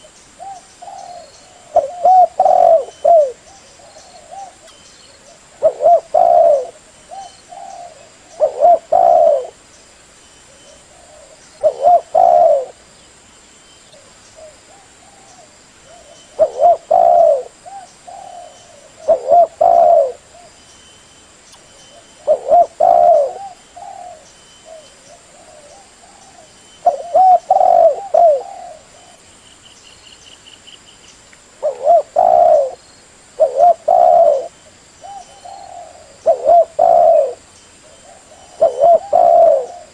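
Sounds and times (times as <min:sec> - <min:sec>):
dove cooing: 0:00.0 - 0:09.6, 0:10.5 - 0:12.8, 0:14.4 - 0:20.6, 0:21.9 - 0:29.2, 0:31.6 - 0:32.8, 0:33.4 - 0:39.9.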